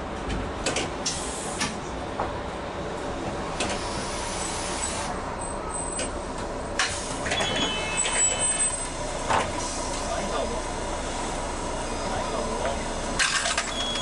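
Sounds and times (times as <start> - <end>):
streetcar interior rumble: 0.0 - 14.0.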